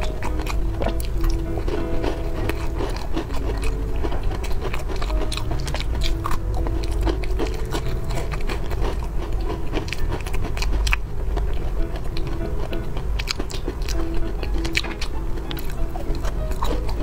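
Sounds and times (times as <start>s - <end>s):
close chewing with crunches: 0.0s - 17.0s
soft background music: 0.0s - 17.0s.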